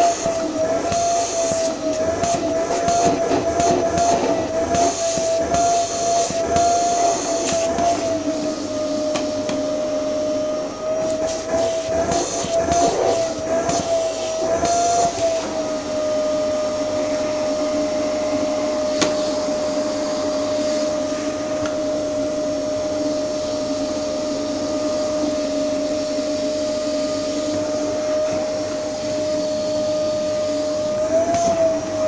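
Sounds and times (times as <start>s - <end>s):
vacuum cleaner whistling: 0.0s - 32.0s.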